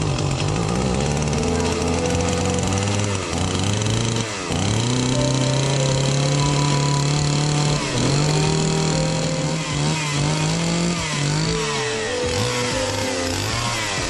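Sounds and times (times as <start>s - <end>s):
chainsaw cutting log: 0.0s - 14.0s.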